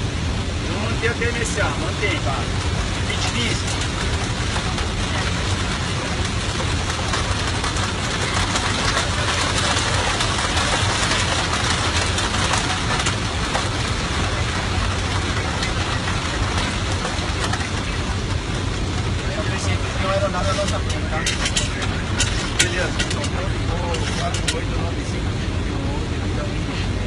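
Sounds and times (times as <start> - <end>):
aircraft low hum: 0.0 - 27.0
heavy rain on a windshield: 0.0 - 27.0.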